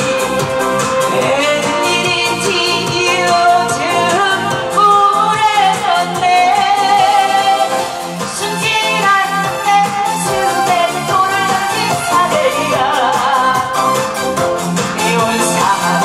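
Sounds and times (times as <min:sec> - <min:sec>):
woman singing into a microphone: 0:00.0 - 0:14.1, 0:14.8 - 0:16.0
backing track with steady beat: 0:00.0 - 0:16.0.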